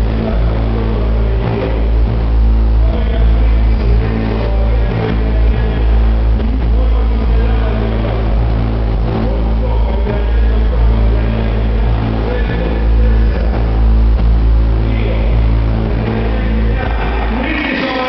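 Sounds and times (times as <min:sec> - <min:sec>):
heavy bass from subwoofers: 0:00.0 - 0:18.0
rough buzz: 0:00.0 - 0:18.0.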